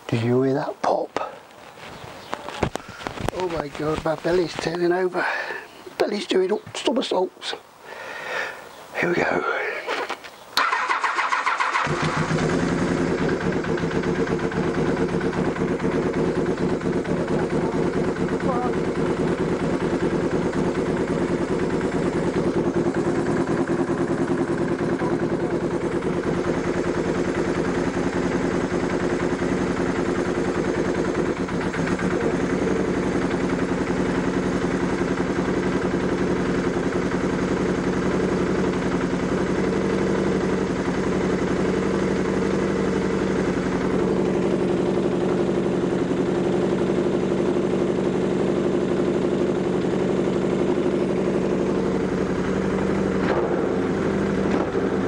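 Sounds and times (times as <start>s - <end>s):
motorcycle engine idling: 0.0s - 6.6s, 10.6s - 55.0s.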